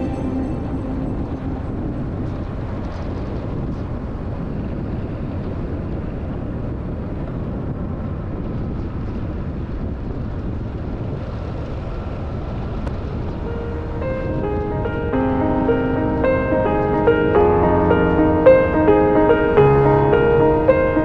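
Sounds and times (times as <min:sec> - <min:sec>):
wind noise: 0:00.0 - 0:21.0.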